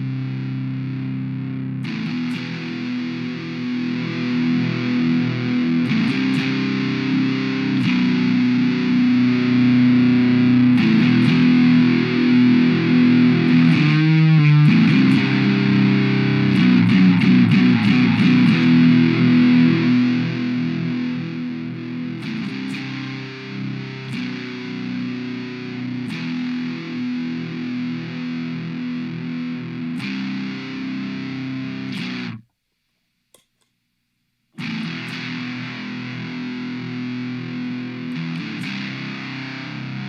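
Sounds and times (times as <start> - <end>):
fuzzy distorted electric guitar: 0.0 - 32.5, 34.5 - 40.0.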